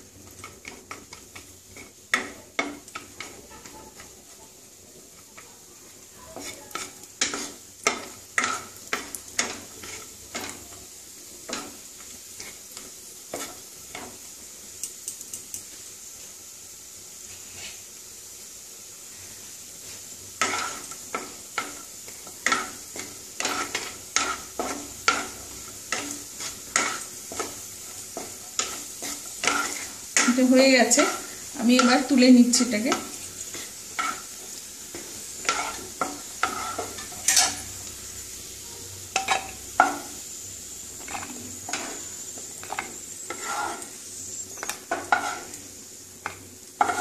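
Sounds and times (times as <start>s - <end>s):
nuts sizzling in oil: 0.0s - 47.0s
wooden spatula scraping a pan: 0.2s - 10.7s, 11.4s - 14.3s, 17.2s - 17.9s, 19.3s - 37.9s, 38.6s - 40.2s, 41.0s - 47.0s.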